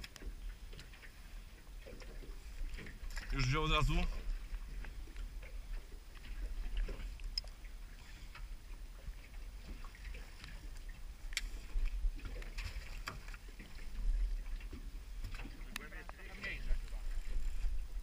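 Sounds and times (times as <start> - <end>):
water lapping against boat hull: 0.0 - 18.0.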